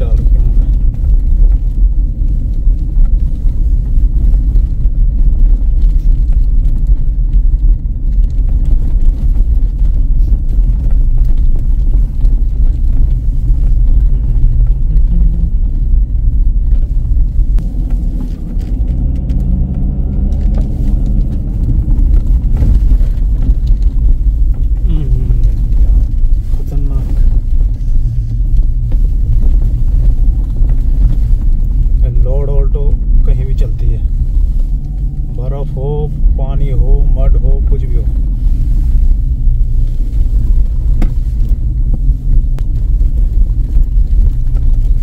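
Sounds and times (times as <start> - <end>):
car engine and tyre rumble: 0.0 - 45.0.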